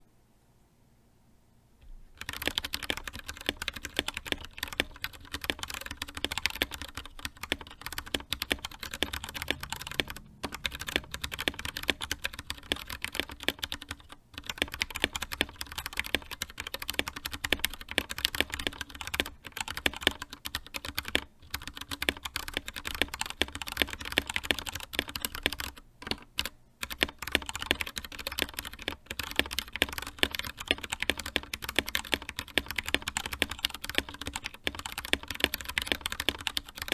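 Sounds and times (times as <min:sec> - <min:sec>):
mechanical keyboard typing: 0:02.2 - 0:36.9.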